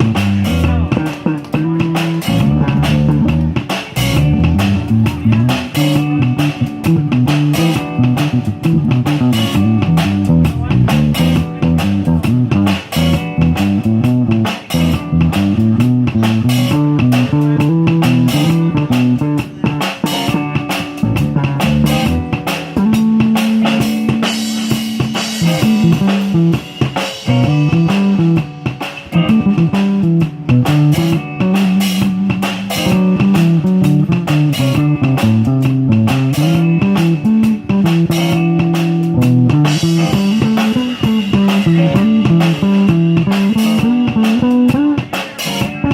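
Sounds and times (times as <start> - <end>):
bass guitar: 0.0 - 45.9
drum kit: 0.0 - 45.9
guitar melody: 0.0 - 45.9.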